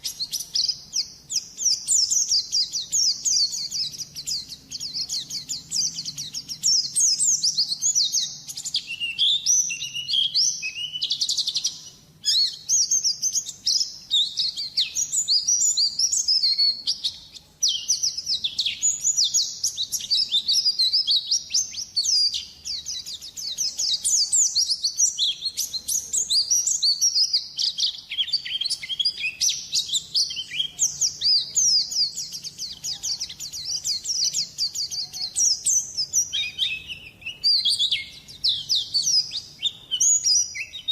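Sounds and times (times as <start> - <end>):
bird twittering chirps and trills: 0.0 - 40.9.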